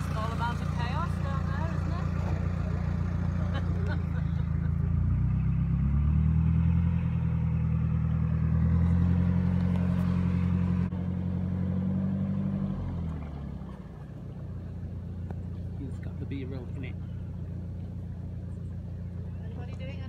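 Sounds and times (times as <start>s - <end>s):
boat diesel engine throbbing: 0.0s - 20.0s.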